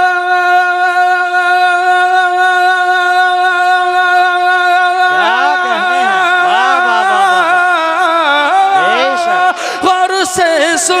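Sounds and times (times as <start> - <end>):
man singing through pa system: 0.0 - 11.0.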